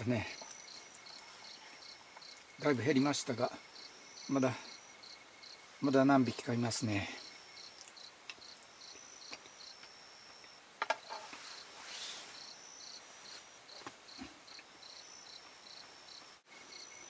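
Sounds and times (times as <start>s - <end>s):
crickets chirping: 0.0s - 17.0s
high insect trill: 0.0s - 17.0s.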